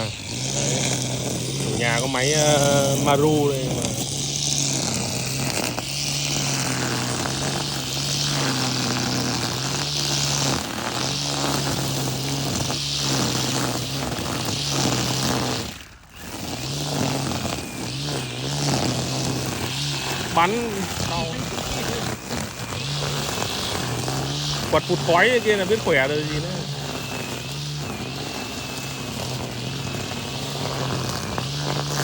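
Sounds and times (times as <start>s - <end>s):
brush cutter motor hum: 0.0s - 32.0s
cutter head hissing through grass: 0.0s - 32.0s.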